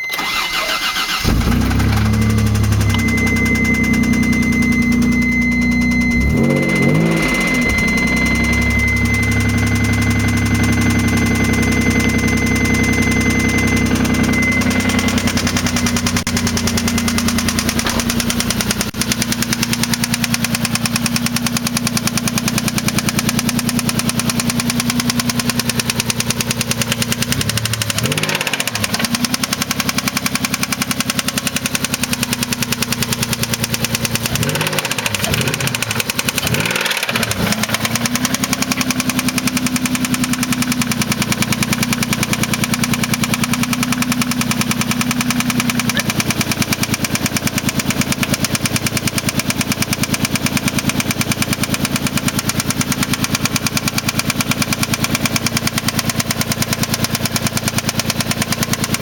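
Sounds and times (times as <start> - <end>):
car engine revving: 0.1 - 59.0
car engine idling with knock: 1.2 - 59.0.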